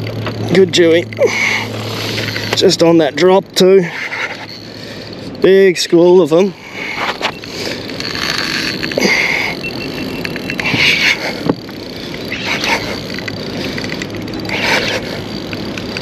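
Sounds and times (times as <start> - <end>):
fishing reel winding: 0.0 - 16.0
wind: 0.0 - 16.0.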